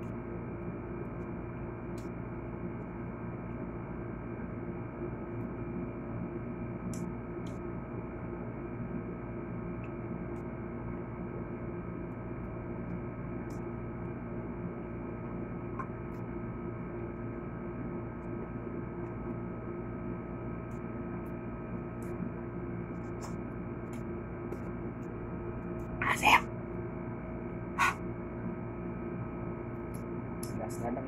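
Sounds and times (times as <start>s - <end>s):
steady hum of held tones: 0.0s - 31.0s.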